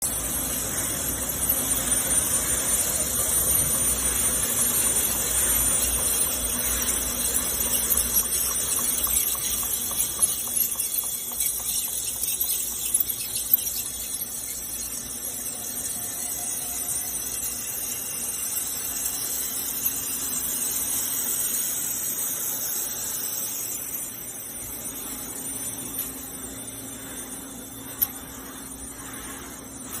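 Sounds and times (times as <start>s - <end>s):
pipe mill machine hum: 0.0s - 30.0s.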